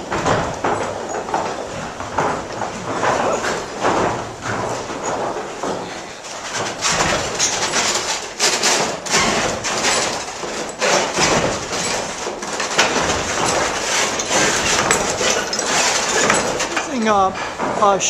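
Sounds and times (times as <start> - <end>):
wooden gears knocking and clattering: 0.0 - 18.0.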